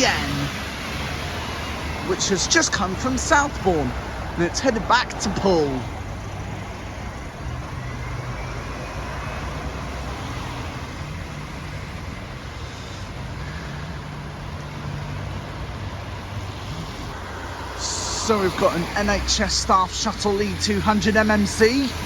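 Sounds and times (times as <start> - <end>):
bus engine running: 0.0 - 22.0
road traffic noise: 0.0 - 22.0.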